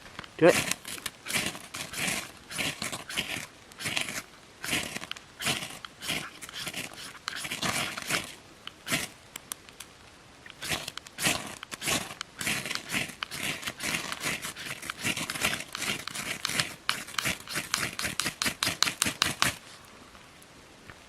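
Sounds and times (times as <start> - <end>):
knife scraping ferro rod: 0.5 - 9.1, 10.5 - 19.6.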